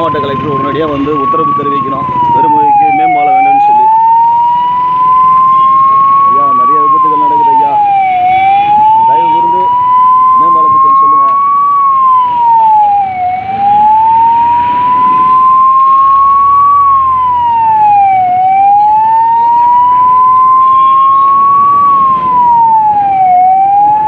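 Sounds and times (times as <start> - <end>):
ambulance siren wailing: 0.0 - 24.0.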